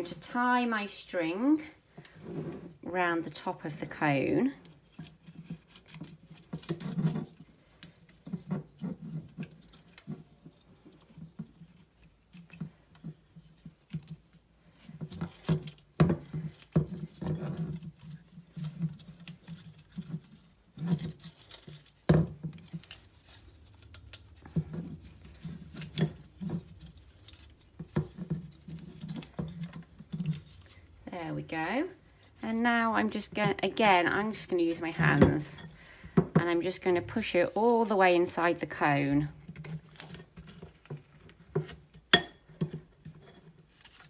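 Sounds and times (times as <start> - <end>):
hands rustling and scraping: 4.6 - 44.0.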